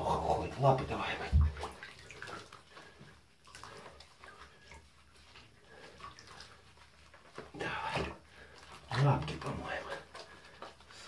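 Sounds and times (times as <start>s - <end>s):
water splashing in bathtub: 0.0s - 11.0s.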